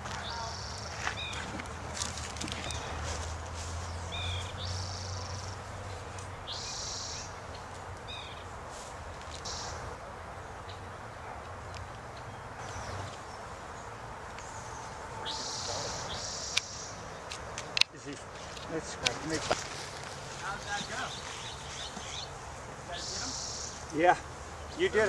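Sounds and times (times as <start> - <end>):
small birds chirping: 0.0 - 9.8, 10.5 - 25.0.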